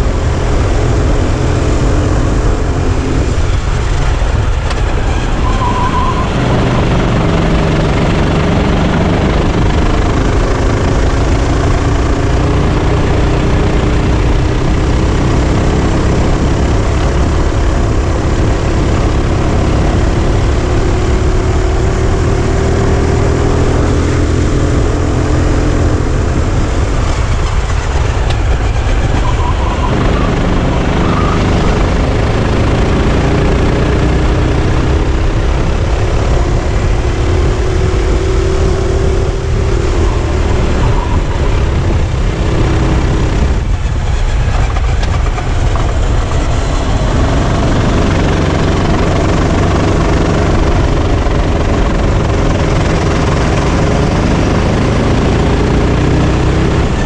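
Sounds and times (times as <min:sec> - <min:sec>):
kart engine running at speed: 0:00.0 - 0:57.0
road noise: 0:00.0 - 0:57.0
wind noise: 0:00.0 - 0:57.0.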